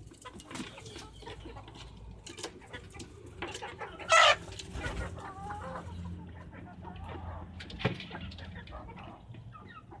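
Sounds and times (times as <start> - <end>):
hens clucking softly: 0.0 - 10.0.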